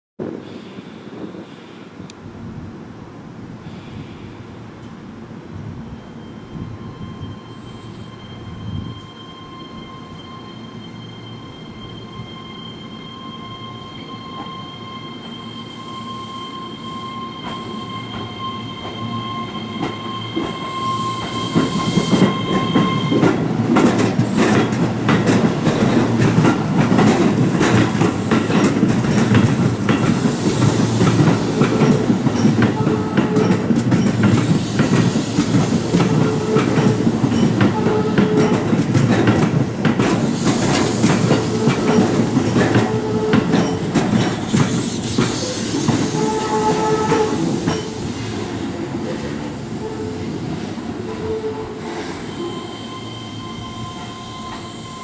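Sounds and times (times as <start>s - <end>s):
electric train rolling: 4.8s - 55.0s.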